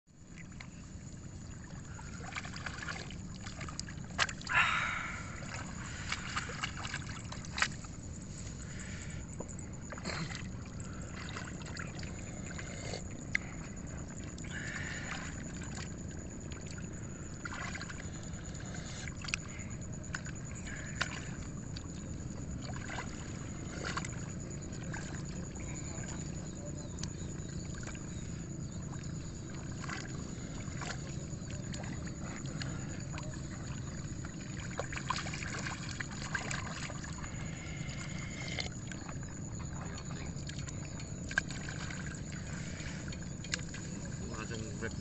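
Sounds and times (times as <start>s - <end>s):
muddy water sloshing and splashing: 0.2s - 45.0s.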